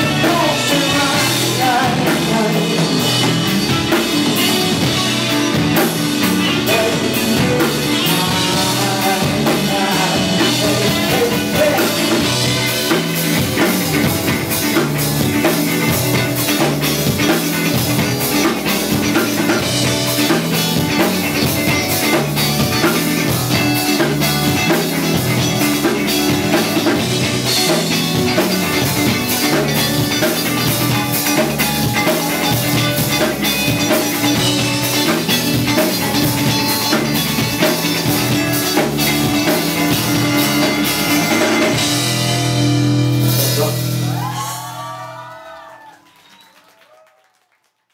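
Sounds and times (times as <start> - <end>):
drum kit with cymbals: 0.0 - 44.7
bass line: 0.0 - 45.6
electric guitar: 0.0 - 46.0.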